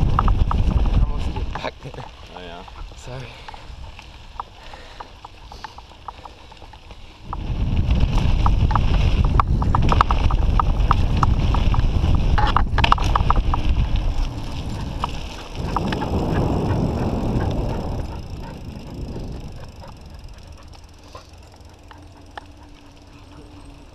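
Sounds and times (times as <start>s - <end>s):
gravel and bike rattles: 0.0s - 23.9s
tyres running over dirt: 0.0s - 23.9s
wind rumble on microphone: 0.0s - 23.9s.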